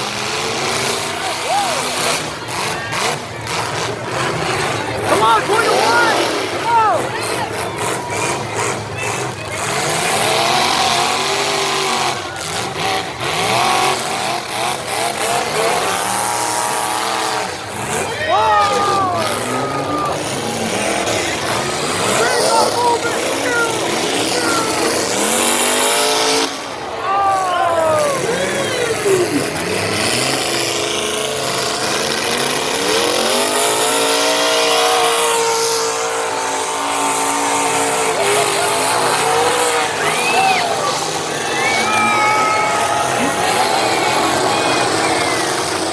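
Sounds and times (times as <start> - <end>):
car engines revving hard: 0.0 - 45.9.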